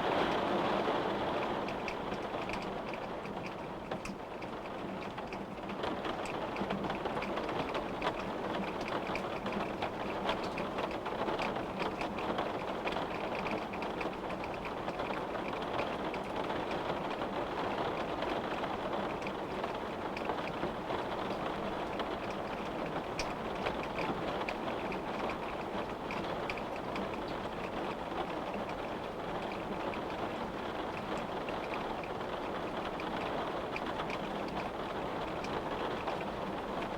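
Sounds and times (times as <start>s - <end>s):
rain hitting a window pane: 0.0s - 36.9s.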